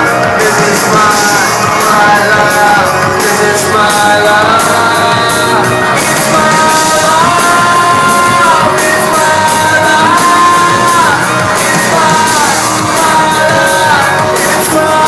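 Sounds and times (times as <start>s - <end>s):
live pop music: 0.0s - 15.0s
steady drum beat: 0.0s - 15.0s.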